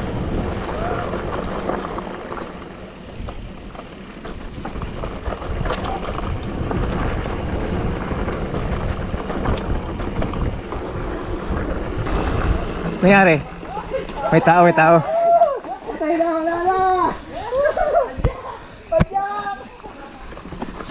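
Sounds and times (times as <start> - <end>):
bike rattles and clicks: 0.0 - 20.9
low tyre rumble: 0.0 - 20.9
wind buffeting microphone: 0.0 - 20.9.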